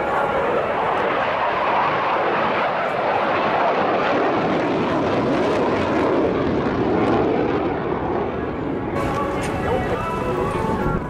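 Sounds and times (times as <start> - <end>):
fighter jets flying over: 0.0 - 11.0.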